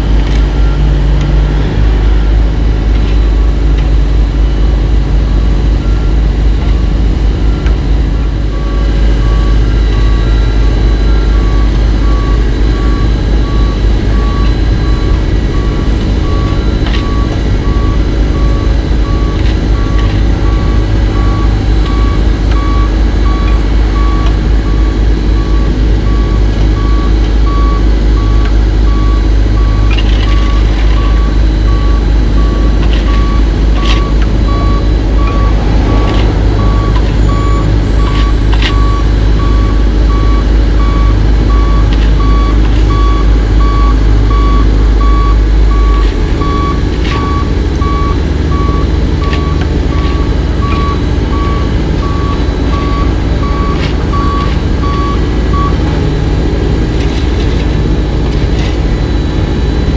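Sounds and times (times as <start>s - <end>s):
backup alarm beeping: 0.0s - 59.9s
diesel machinery droning: 0.0s - 59.9s.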